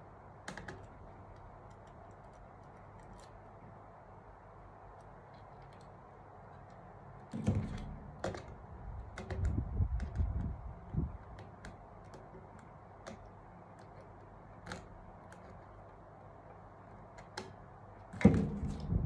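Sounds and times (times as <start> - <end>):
knocks and rubbing of handled plastic: 0.4 - 3.7, 4.9 - 19.0.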